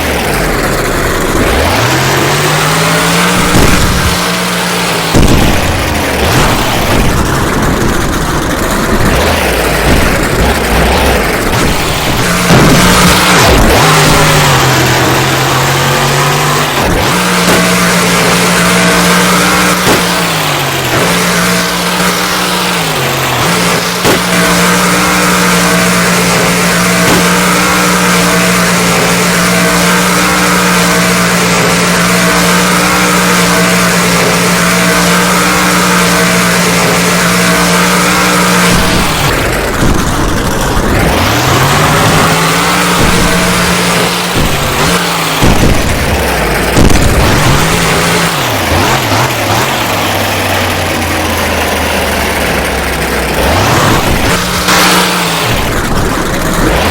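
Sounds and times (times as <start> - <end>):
monster truck engine revving: 0.0 - 56.9.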